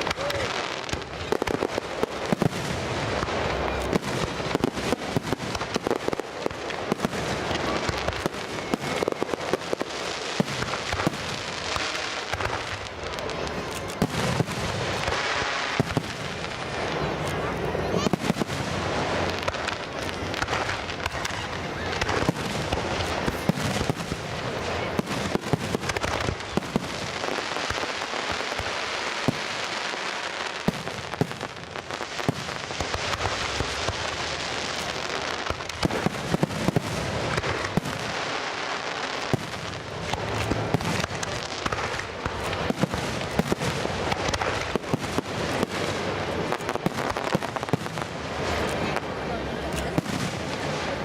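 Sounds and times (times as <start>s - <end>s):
fireworks crackling and popping: 0.0s - 51.0s.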